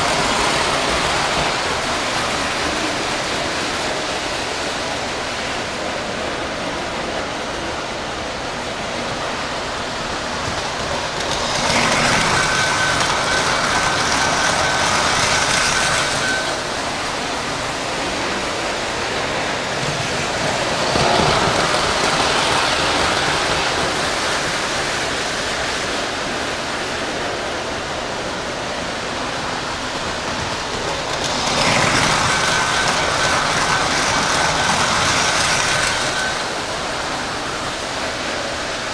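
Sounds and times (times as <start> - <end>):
model trains rolling on metal track: 0.0 - 38.9.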